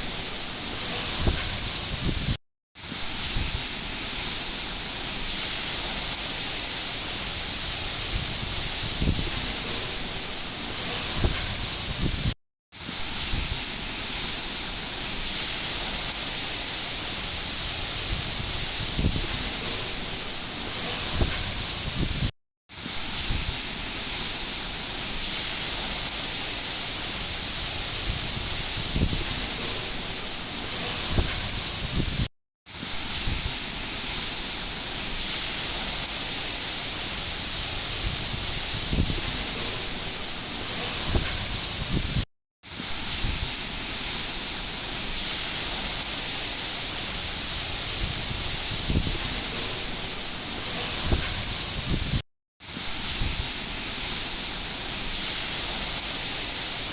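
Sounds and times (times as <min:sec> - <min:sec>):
heavy rain hiss: 0:00.0 - 0:56.9.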